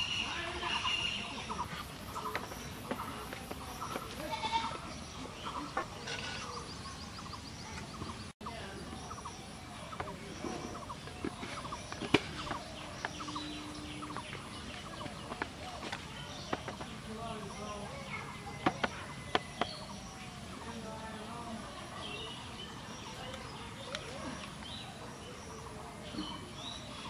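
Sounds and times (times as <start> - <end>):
animal and bird calls: 0.0 - 27.0.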